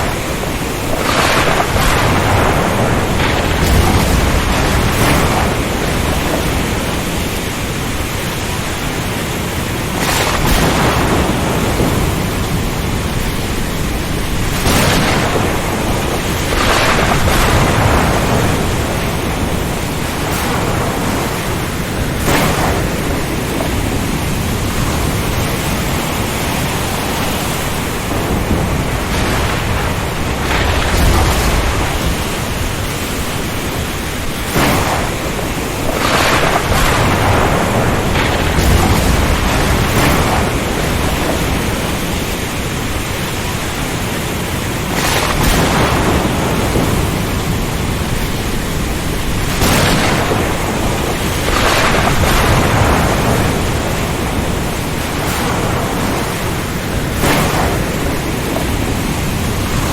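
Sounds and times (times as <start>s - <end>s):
rain: 0.0s - 59.9s
strong wind: 0.0s - 59.9s
waves breaking: 0.0s - 59.9s.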